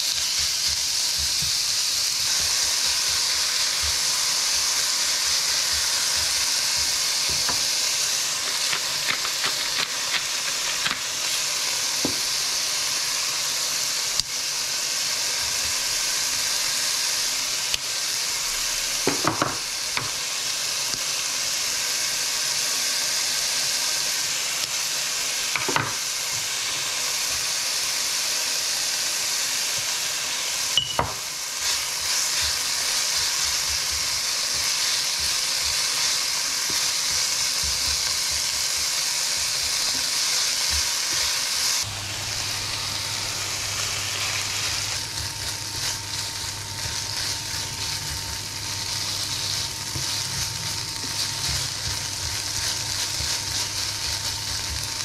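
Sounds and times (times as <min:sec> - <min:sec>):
meat and vegetables sizzling: 0:00.0 - 0:55.0.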